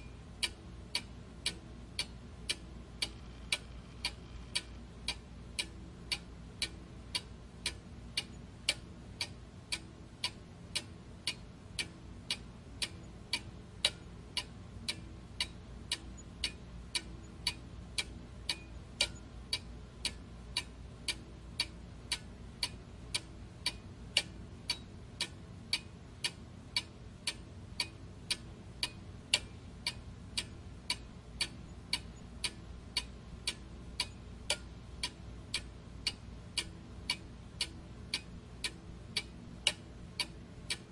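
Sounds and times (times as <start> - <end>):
faint low hum: 0.0 - 40.9
steady ticking: 0.0 - 40.9.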